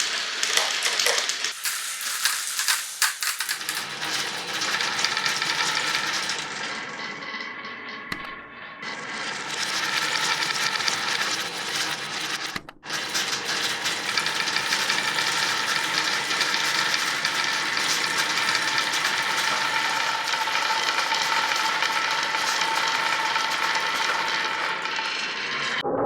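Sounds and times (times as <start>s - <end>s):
marbles rattling along a toy track: 0.0s - 6.9s, 9.1s - 25.8s.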